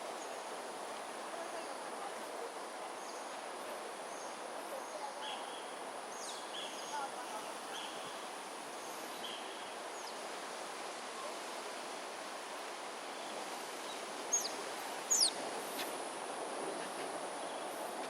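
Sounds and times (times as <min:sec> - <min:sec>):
faint high insect hum: 0:00.0 - 0:18.0
wind and rustling: 0:00.0 - 0:18.0.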